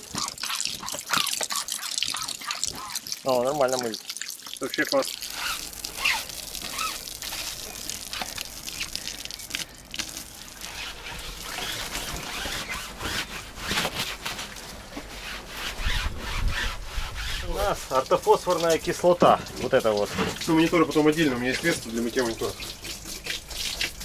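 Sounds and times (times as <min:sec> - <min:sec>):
hose water splashing on deck: 0:00.0 - 0:24.0.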